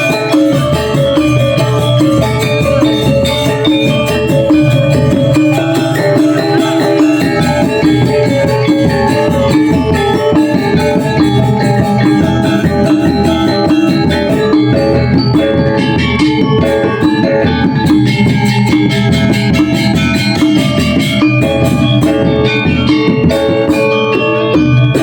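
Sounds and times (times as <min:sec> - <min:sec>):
gamelan ensemble playing: 0:00.0 - 0:25.0.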